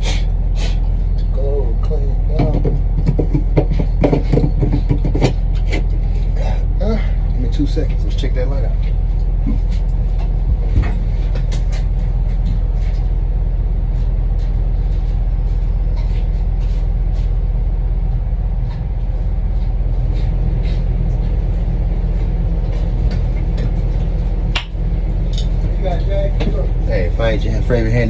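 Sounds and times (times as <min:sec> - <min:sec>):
engine rumbling: 0:00.0 - 0:28.0.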